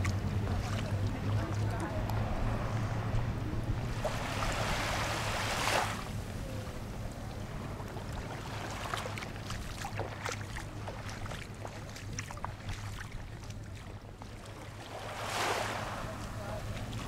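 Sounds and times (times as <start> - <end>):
wind rumbling on microphone: 0.0 - 14.2.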